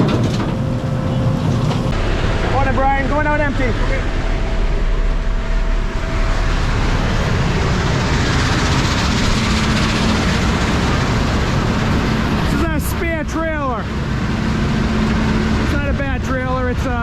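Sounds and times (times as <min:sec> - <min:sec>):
diesel truck engine: 0:00.0 - 0:17.0
road noise: 0:00.0 - 0:17.0.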